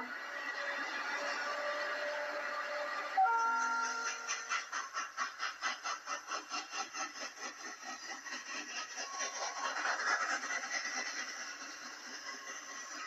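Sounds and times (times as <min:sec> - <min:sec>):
model steam train passing: 0:00.0 - 0:13.0.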